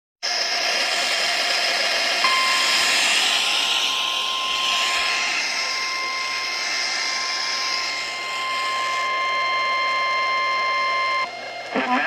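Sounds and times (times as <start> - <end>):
static hiss: 0.3 - 11.0
steady high alert tone: 0.3 - 12.0.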